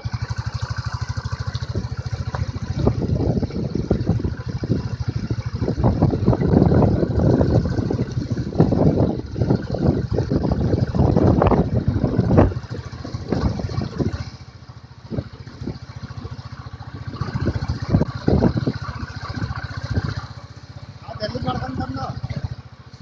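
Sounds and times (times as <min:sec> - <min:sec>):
knocks and rattles of bike: 0:00.0 - 0:23.0
motorcycle engine thumping: 0:00.0 - 0:23.0.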